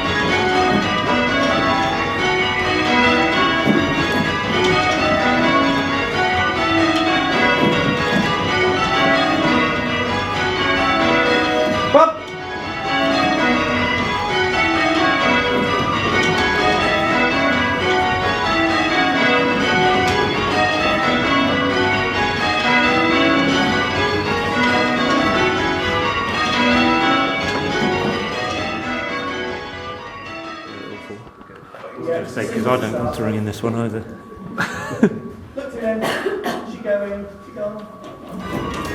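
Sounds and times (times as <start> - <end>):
church bells change ringing: 0.0 - 38.9.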